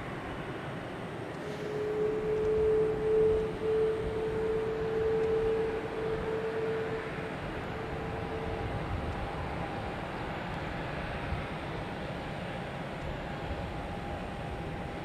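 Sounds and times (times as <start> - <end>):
higher jet whine: 0.0 - 15.0
jet engine rushing whine: 0.0 - 15.0.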